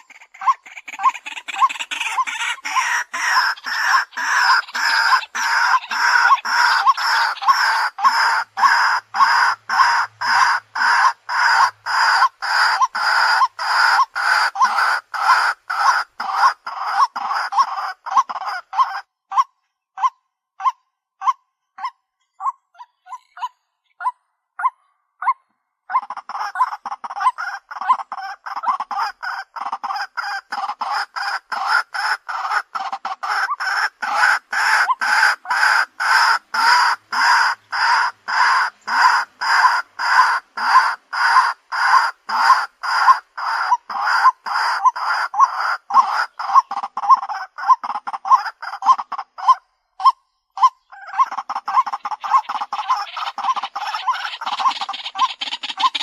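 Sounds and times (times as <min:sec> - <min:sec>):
waterhen calling: 0:00.0 - 0:56.0.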